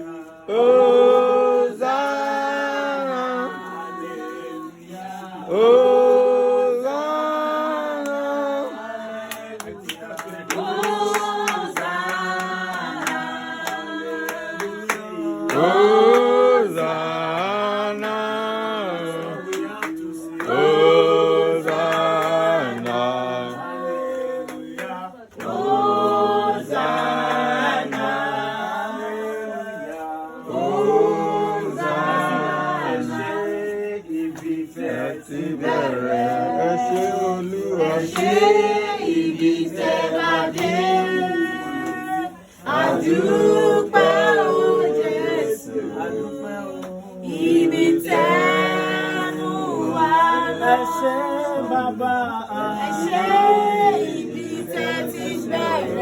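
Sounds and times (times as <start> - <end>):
group singing unaccompanied: 0.0 - 56.0.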